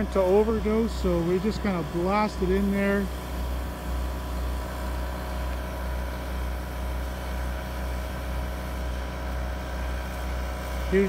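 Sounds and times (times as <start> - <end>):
generator and air compressor humming: 0.0 - 11.0.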